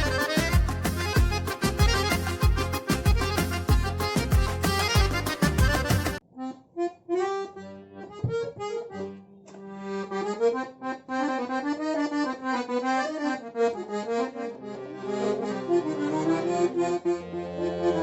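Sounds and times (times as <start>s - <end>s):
accordion bass notes: 0.0s - 18.0s
accordion melody over chords: 0.0s - 18.0s.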